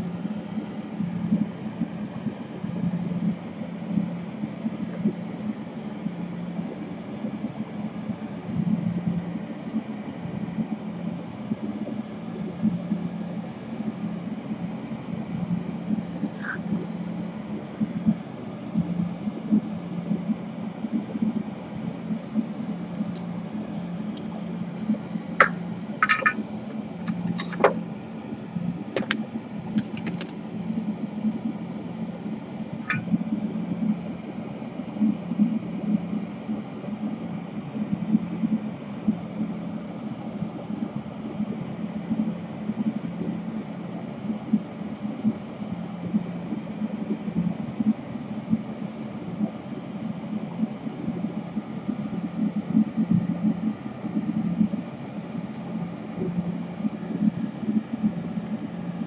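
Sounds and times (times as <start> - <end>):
fan whirring: 0.0 - 59.0.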